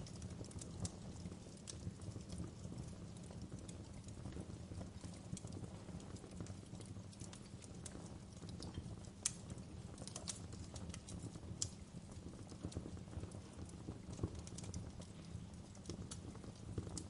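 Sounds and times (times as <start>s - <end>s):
low steady fire rumble: 0.0s - 17.0s
wood fire crackling and popping: 0.0s - 17.0s.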